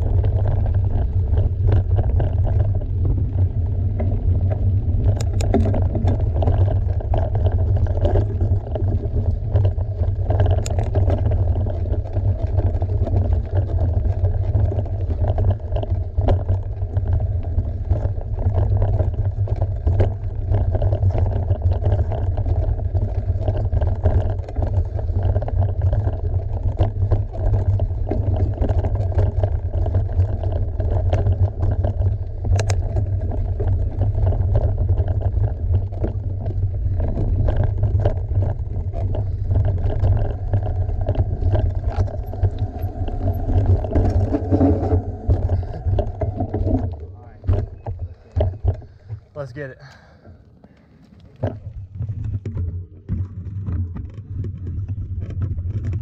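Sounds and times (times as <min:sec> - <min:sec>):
wind on microphone: 0:00.0 - 0:49.2
bike clicks and rattles: 0:00.0 - 0:56.0
bike tyres rolling: 0:00.0 - 0:56.0.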